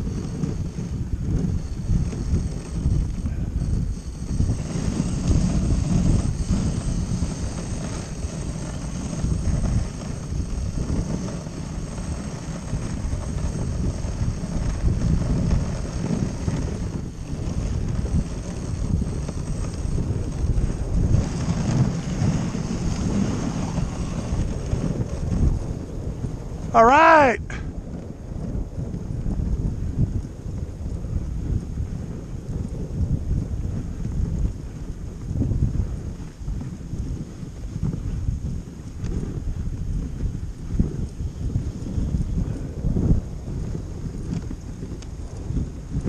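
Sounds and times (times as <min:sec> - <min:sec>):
sled runners on snow: 0:00.0 - 0:46.0
wind buffeting microphone: 0:00.0 - 0:46.0.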